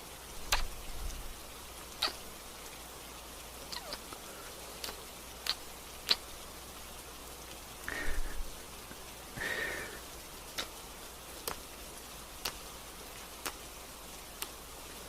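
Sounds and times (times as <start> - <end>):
gentle rain falling: 0.0 - 15.0.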